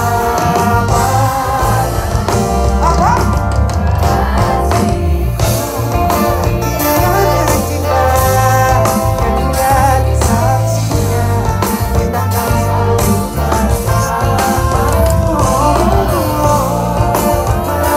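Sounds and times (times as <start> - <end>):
person singing: 0.0 - 3.3, 3.9 - 17.9
live pop band: 0.0 - 17.9.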